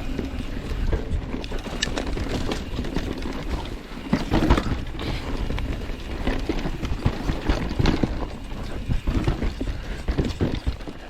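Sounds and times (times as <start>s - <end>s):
bike rattling and knocking: 0.0s - 11.0s
bike tyres crunching over dirt: 0.0s - 11.0s
wind rumbling on microphone: 0.0s - 11.0s.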